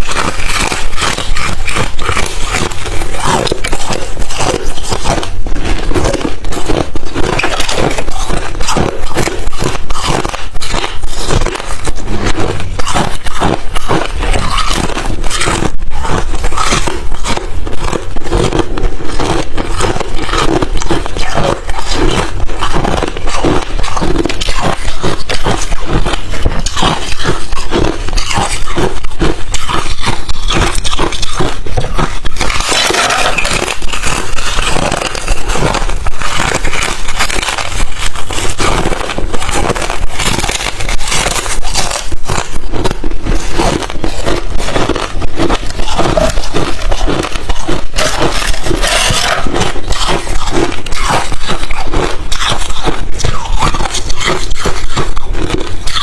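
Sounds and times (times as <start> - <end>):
person crunching ice: 0.0 - 56.0.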